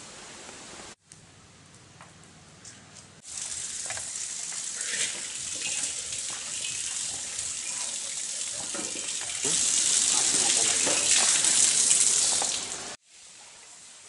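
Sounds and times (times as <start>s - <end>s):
wood fire crackling: 0.5s - 13.8s.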